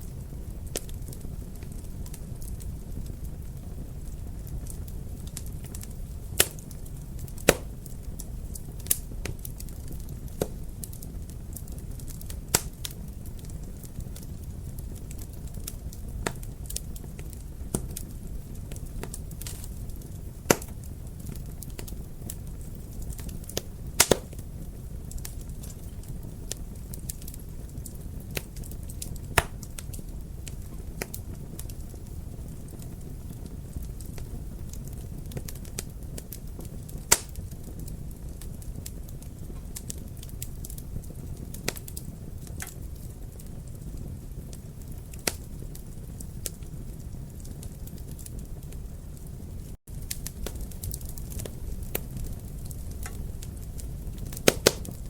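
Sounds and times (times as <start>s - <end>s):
sharp fire pops: 0.0s - 48.8s, 49.9s - 55.0s
wood fire crackling: 0.0s - 55.0s.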